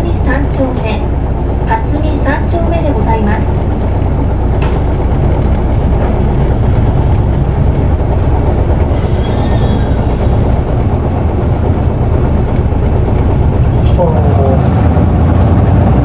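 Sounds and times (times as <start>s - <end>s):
bus engine rumble: 0.0s - 16.0s
road noise: 0.0s - 16.0s.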